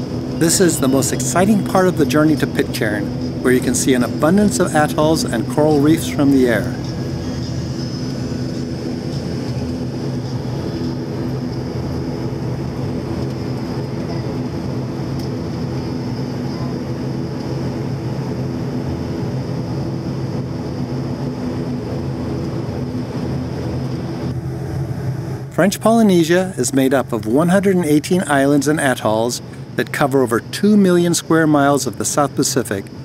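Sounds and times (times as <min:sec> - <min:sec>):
turboprop engines droning: 0:00.0 - 0:33.0.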